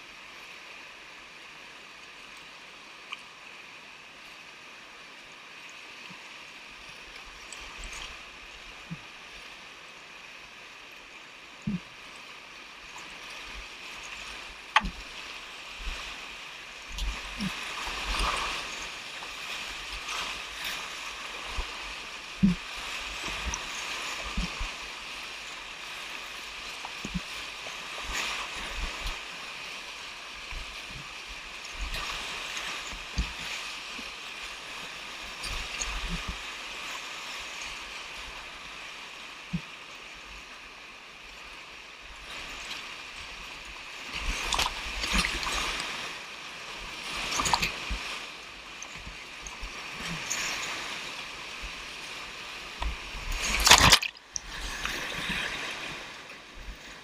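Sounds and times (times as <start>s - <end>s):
water splashes: 5.2s - 57.0s
river rapids rushing: 6.5s - 39.4s, 42.5s - 57.0s.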